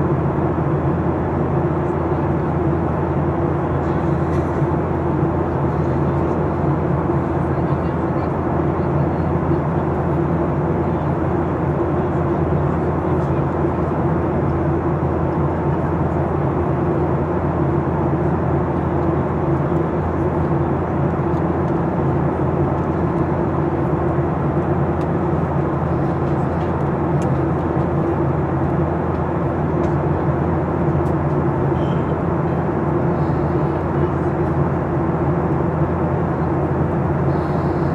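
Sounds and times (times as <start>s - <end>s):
jet engines droning: 0.0s - 37.9s.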